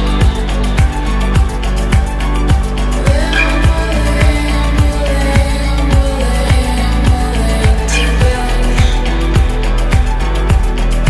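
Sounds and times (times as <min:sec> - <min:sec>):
layered synth tones: 0:00.0 - 0:09.8
held bass: 0:00.0 - 0:11.0.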